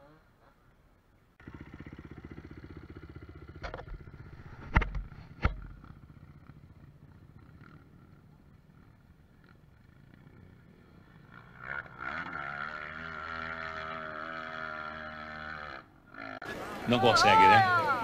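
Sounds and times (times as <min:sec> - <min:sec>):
motorcycle engine idling: 0:01.4 - 0:16.4.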